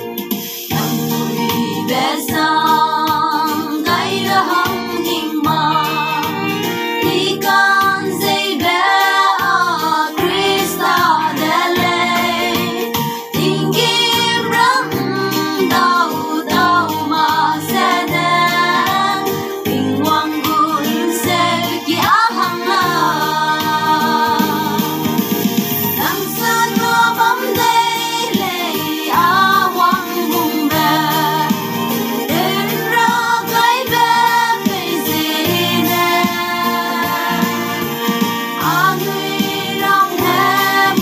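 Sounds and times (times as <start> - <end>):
women singing together: 0.7 - 6.4, 7.0 - 25.3, 26.0 - 37.9, 38.6 - 41.0.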